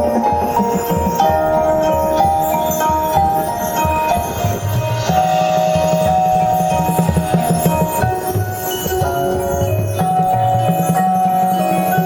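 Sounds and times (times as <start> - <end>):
marching band playing: 0.0 - 11.9.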